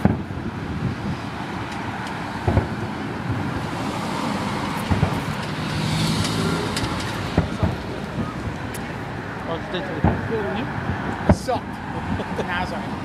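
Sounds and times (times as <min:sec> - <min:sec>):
distant fireworks booming: 0:00.0 - 0:09.2, 0:09.9 - 0:12.4
road traffic noise: 0:00.0 - 0:13.0.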